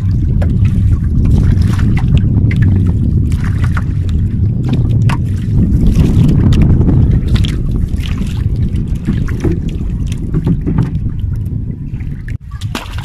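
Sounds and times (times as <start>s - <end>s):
paddle splashes: 0.0s - 13.0s
wind rumble on microphone: 0.0s - 13.0s.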